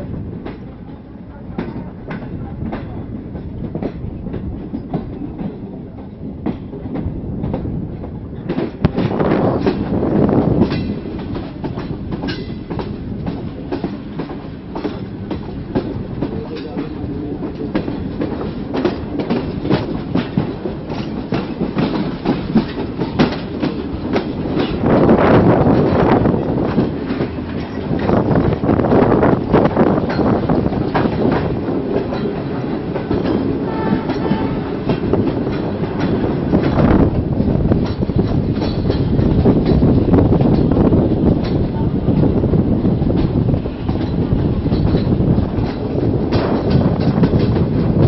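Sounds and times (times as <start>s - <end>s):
steady train rumble: 0.0s - 48.0s
train wheels clattering over rails: 0.0s - 48.0s.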